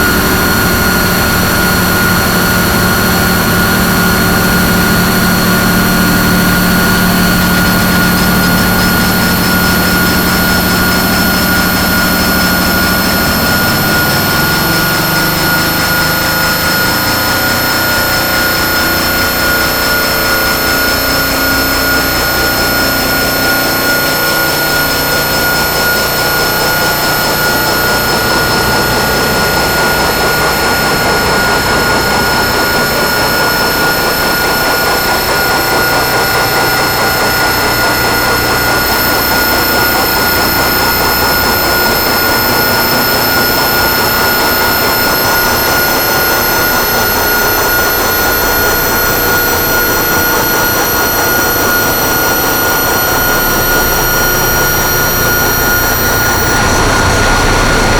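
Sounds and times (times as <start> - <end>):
fast-wobbling shrill whine: 0.0 - 57.9
harsh noise drone: 0.0 - 57.9
high-pitched whistling tones: 0.0 - 57.9
low hum: 0.0 - 57.9.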